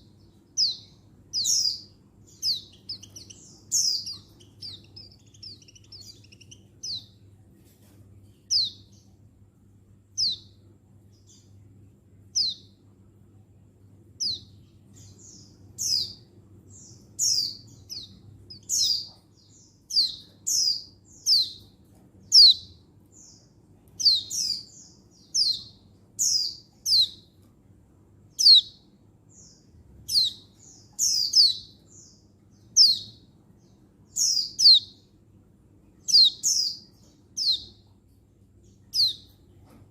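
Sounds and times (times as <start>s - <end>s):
bird chirping: 0.0s - 9.3s, 10.0s - 12.9s, 13.7s - 27.5s, 28.2s - 39.9s.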